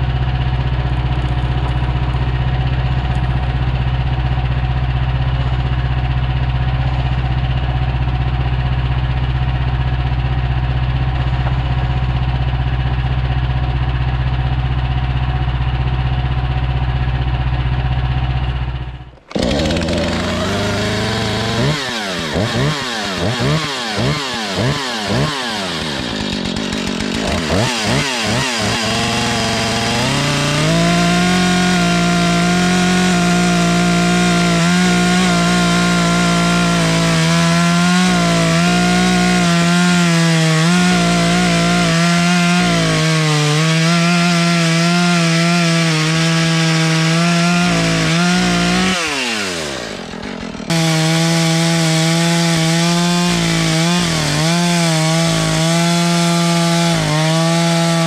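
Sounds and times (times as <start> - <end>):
chainsaw revving: 0.0 - 58.0
small engine running: 0.0 - 58.0.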